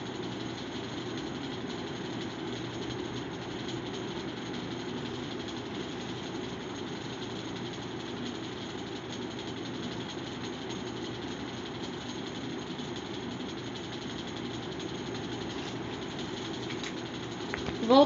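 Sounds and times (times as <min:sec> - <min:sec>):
mechanical running noise: 0:00.0 - 0:18.0.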